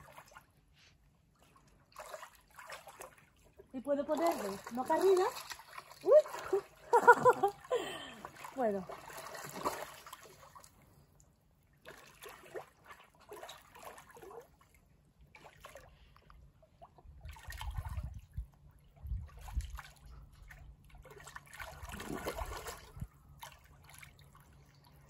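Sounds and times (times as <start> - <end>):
pool water lapping and splashing: 0.0 - 25.0.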